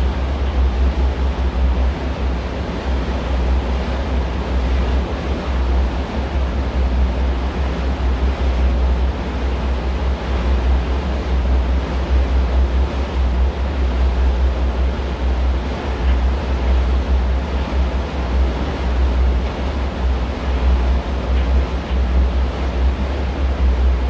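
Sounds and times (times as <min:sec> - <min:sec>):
rushing water from moving boat: 0:00.0 - 0:24.0.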